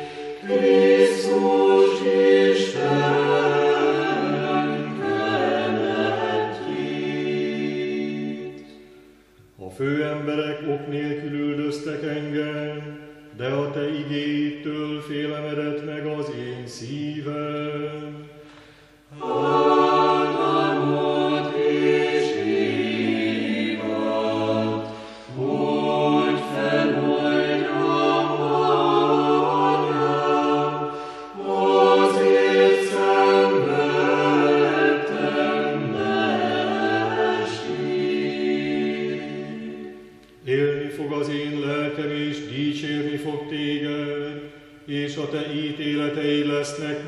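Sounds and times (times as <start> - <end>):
church choir singing chant: 0.0 - 47.0.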